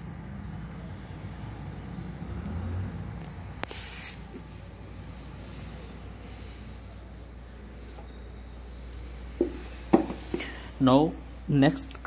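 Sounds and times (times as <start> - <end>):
multimeter beeper tone: 0.0 - 7.0, 8.0 - 12.0.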